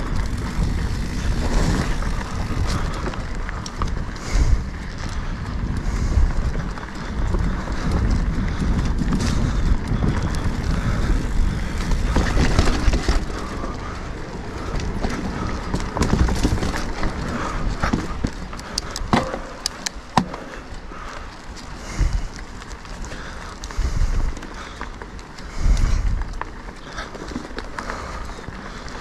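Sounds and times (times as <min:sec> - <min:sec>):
bike rattling over bumps: 0:00.0 - 0:29.0
bike tyres rumbling on dirt: 0:00.0 - 0:29.0.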